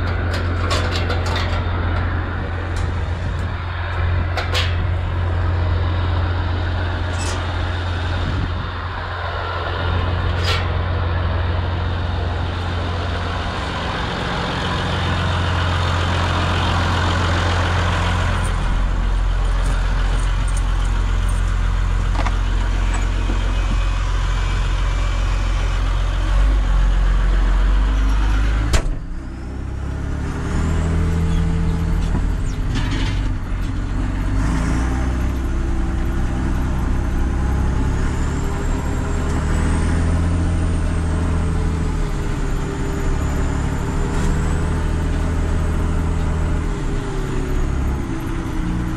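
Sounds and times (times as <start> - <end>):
tractor diesel engine droning: 0.0 - 48.9.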